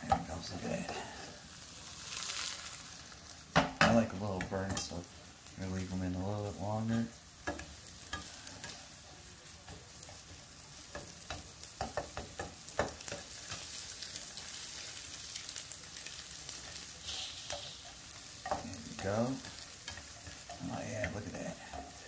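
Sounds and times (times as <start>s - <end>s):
eggs sizzling in frying pan: 0.0s - 22.0s
spatula scraping pan: 0.1s - 22.0s
spatula tapping pan: 3.5s - 22.0s.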